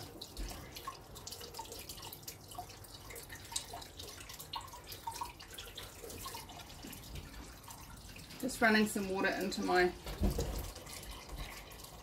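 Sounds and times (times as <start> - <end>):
liquid dripping: 0.0 - 12.0.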